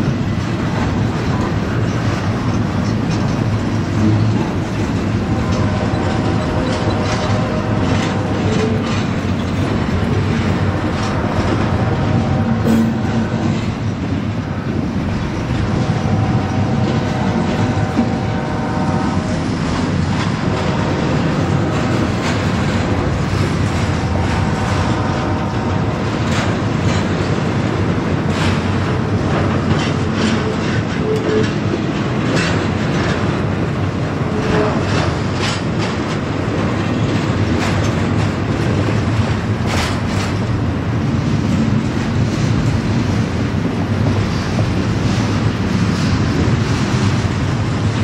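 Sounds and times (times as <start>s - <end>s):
freight train rumbling: 0.0s - 48.0s
wheels clacking over rail joints: 0.0s - 48.0s.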